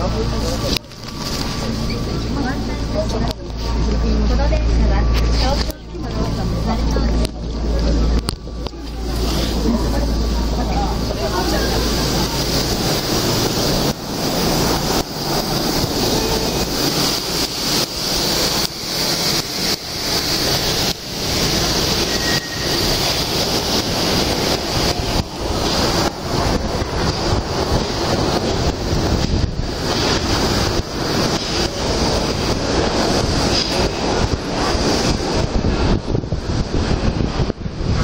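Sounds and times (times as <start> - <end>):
loud steady rushing noise: 0.0 - 38.0.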